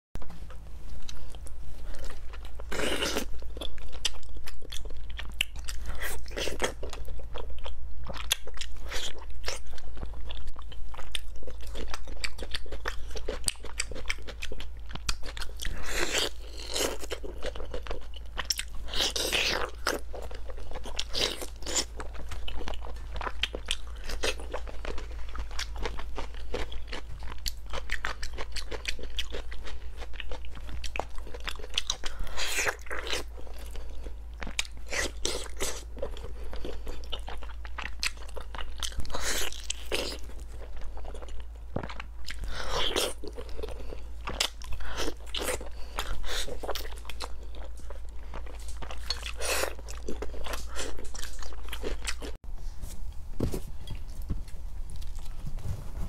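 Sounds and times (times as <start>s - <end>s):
close-miked chewing and crunching: 0.2s - 52.5s
steady low hum: 0.2s - 56.0s.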